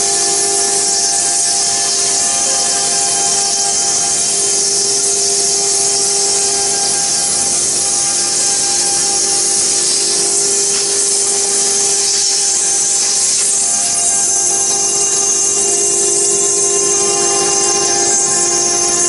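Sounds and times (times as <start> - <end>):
router bit grinding stone: 0.0 - 19.0
spindle whine: 0.0 - 19.0.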